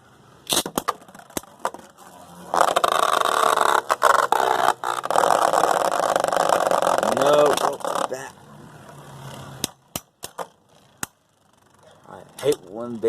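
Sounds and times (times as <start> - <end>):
spinning tops whirring in plastic stadium: 0.5 - 12.4.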